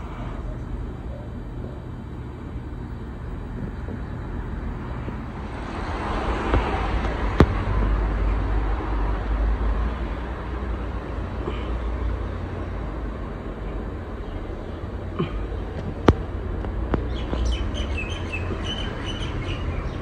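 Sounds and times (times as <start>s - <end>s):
ceiling fan running: 0.0s - 20.0s.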